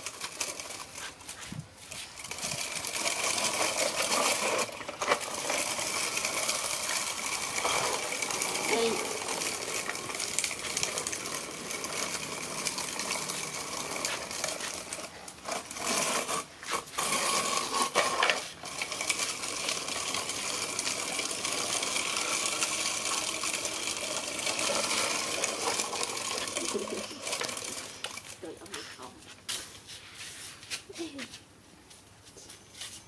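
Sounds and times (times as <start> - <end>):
toy truck wheels rolling on concrete: 0.0 - 30.7.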